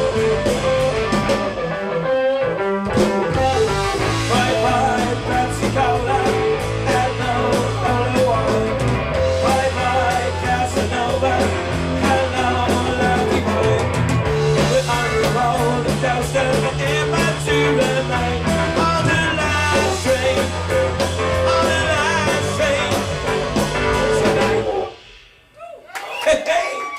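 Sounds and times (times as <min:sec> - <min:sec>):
rock band playing: 0:00.0 - 0:25.5.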